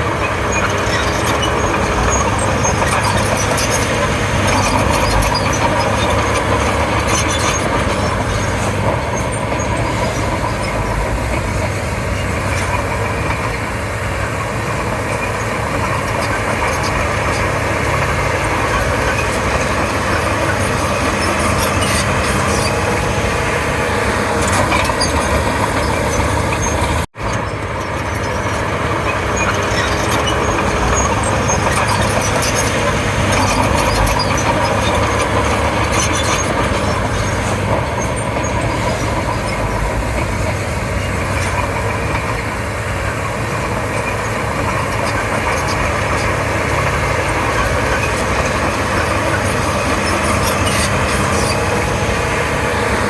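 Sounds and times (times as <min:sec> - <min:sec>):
bulldozer diesel engine under load: 0:00.0 - 0:53.0.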